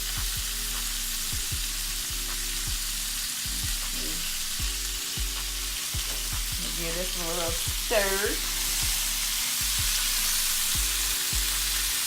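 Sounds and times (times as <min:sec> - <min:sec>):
beat music with kick drum: 0:00.0 - 0:12.0
cabbage sizzling in fat: 0:00.0 - 0:12.0.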